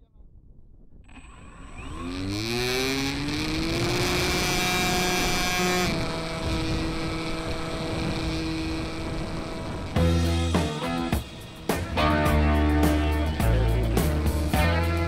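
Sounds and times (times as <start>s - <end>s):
wind rush on microphone: 0.0s - 14.5s
model plane motor whine: 1.0s - 13.4s.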